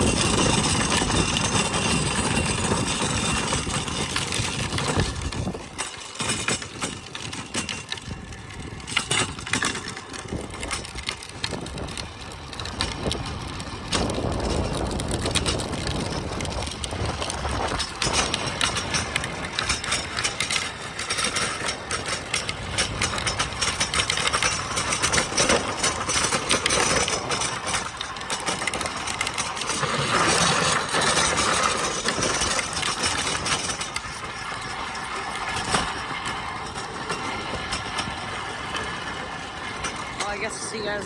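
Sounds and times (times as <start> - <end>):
tricycle wheels rattling on pavement: 0.0 - 41.0.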